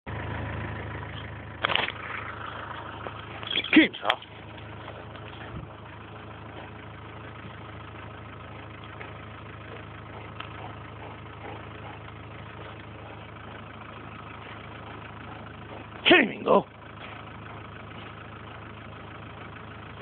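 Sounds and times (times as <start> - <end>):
engine idling: 0.1 - 20.0.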